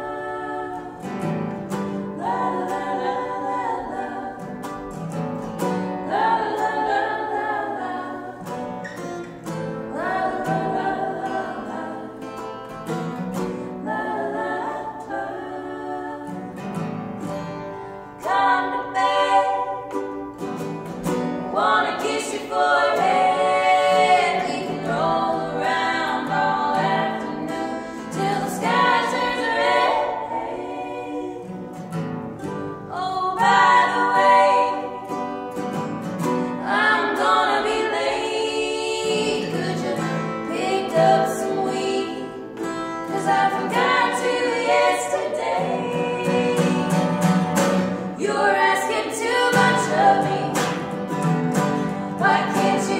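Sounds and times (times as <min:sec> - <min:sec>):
strummed acoustic guitar: 0:00.0 - 0:15.2, 0:16.2 - 0:52.9
ukulele: 0:00.0 - 0:52.9
women singing in harmony: 0:00.0 - 0:52.9.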